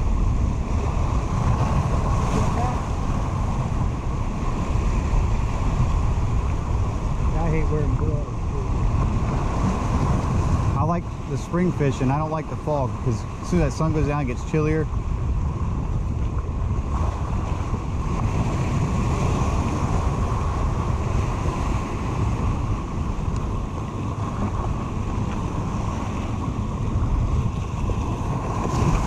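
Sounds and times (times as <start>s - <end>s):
surf breaking on rocks: 0.0s - 29.0s
wind buffeting microphone: 0.0s - 29.0s.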